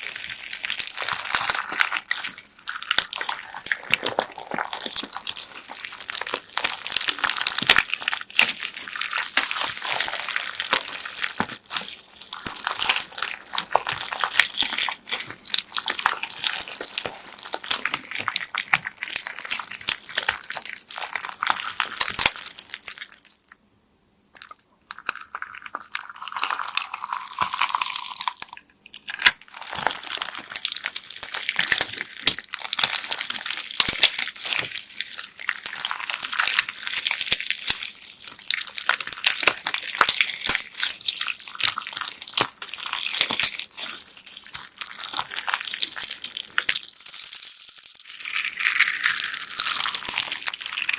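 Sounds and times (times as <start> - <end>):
bead slime crackling: 0.0 - 23.4, 29.0 - 47.0, 48.0 - 50.9.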